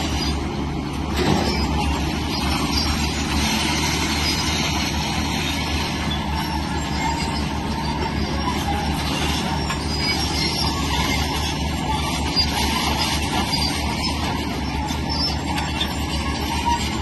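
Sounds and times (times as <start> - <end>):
diesel engine rumble: 0.0 - 17.0
steel crawler tracks squealing: 0.0 - 17.0.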